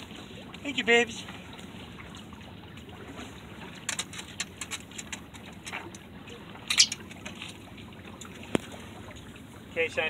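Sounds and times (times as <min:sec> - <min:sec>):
water sloshing along boat hull: 0:00.0 - 0:10.0.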